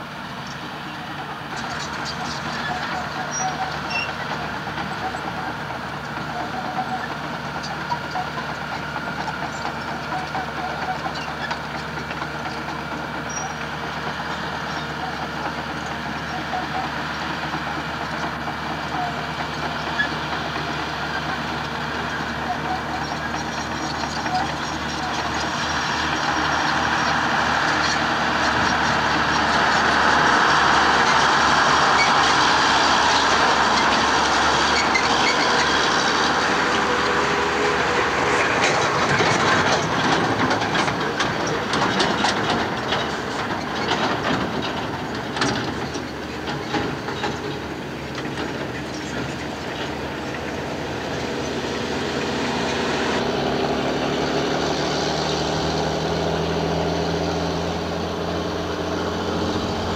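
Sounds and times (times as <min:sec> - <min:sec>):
diesel engines droning: 0:00.0 - 0:59.9
truck rattling and clattering: 0:00.0 - 0:59.9.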